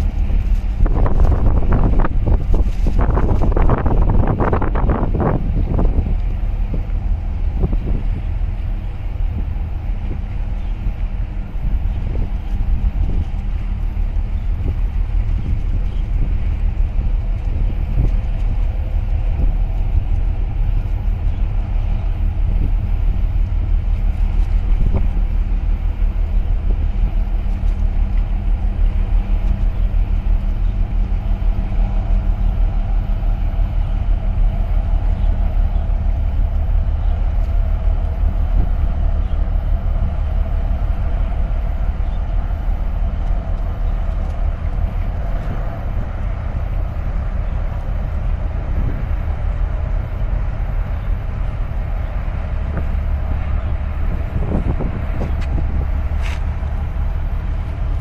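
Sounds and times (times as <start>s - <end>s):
ship engine deep rumble: 0.0s - 58.0s
wind buffeting microphone: 0.0s - 58.0s.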